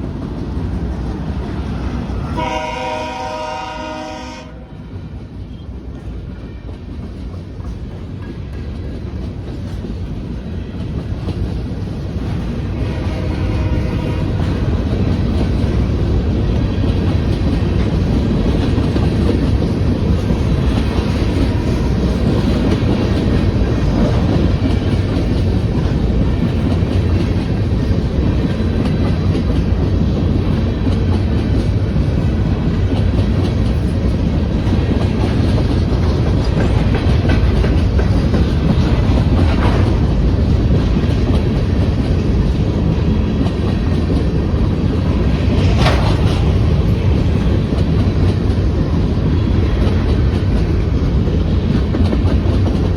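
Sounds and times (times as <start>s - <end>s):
train rumble: 0.0s - 52.9s
train wheels clacking on rails: 0.0s - 52.9s.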